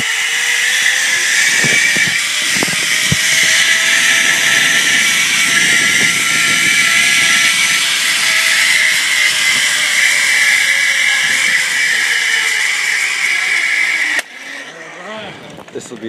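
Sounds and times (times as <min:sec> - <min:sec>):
zip-line trolley whirring on cable: 0:00.0 - 0:15.3.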